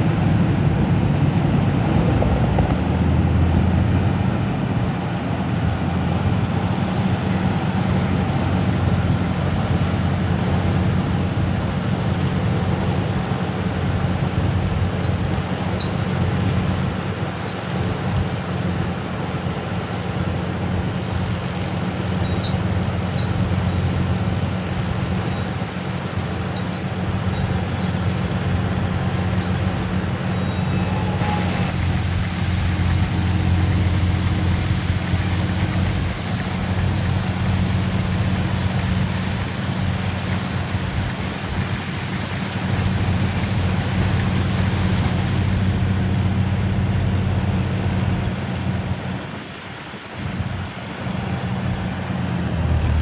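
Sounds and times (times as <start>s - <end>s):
combine harvester engine hum: 0.0s - 53.0s.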